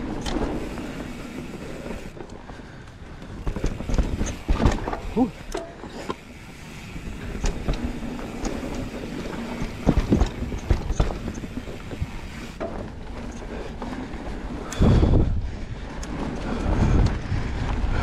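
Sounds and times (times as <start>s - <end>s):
bike knocks and rattles: 0.0s - 18.0s
bike tyres rolling over dirt: 0.0s - 18.0s.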